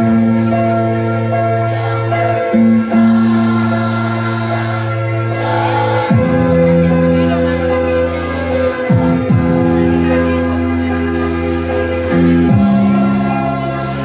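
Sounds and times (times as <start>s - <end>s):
choir singing: 0.5s - 14.0s.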